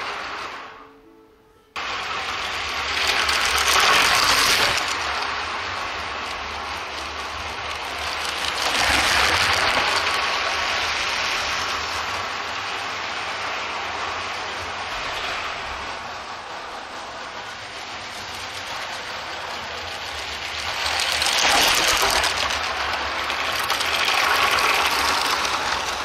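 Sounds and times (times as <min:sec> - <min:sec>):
toy trains rattling on plastic track: 0:00.0 - 0:00.8, 0:01.8 - 0:26.0.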